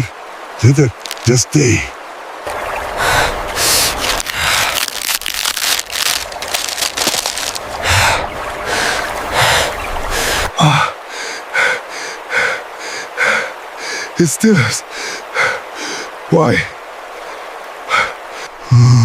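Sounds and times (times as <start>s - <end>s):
water splashing and rushing: 0.0s - 19.0s.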